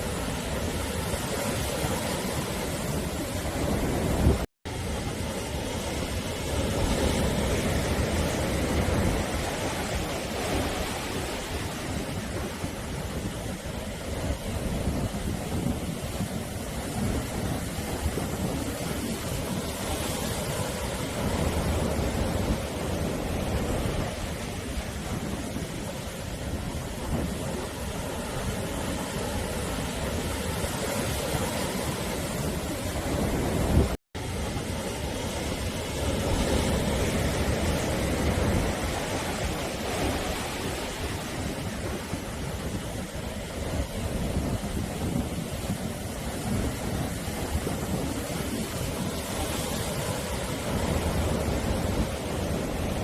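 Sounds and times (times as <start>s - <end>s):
sea waves washing onto shore: 0.0s - 53.0s.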